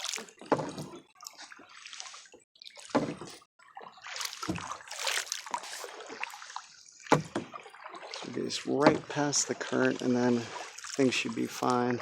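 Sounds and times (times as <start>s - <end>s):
kayak paddle splashing: 0.0s - 12.0s.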